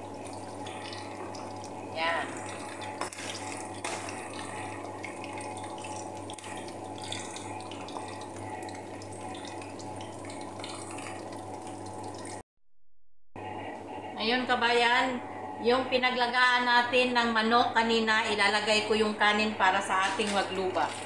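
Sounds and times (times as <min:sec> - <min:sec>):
low even hum: 0:00.0 - 0:12.4, 0:13.4 - 0:21.0.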